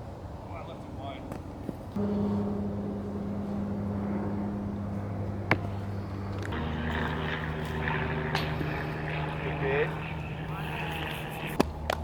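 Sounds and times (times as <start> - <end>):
engine drone: 1.9 - 12.0.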